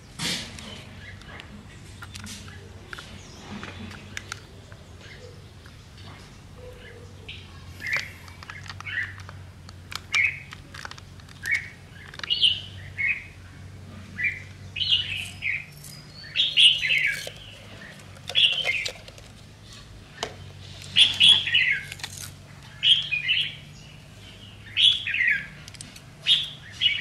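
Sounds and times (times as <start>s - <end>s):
birds chirping: 0.0s - 9.4s, 10.0s - 27.0s.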